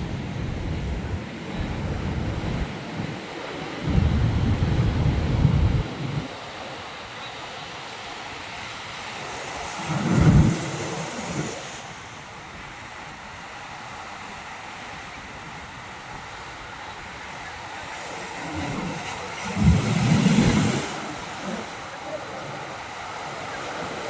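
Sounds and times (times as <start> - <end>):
wind buffeting microphone: 0.0 - 7.0, 9.2 - 12.8, 15.3 - 24.0
surf washing over rocks: 0.0 - 24.0.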